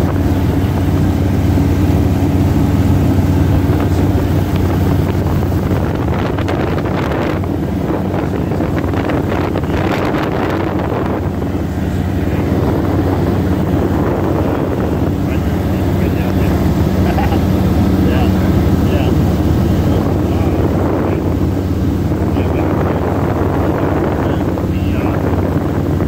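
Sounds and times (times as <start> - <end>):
propeller engine droning: 0.0 - 26.0
wind noise over airframe: 0.0 - 26.0.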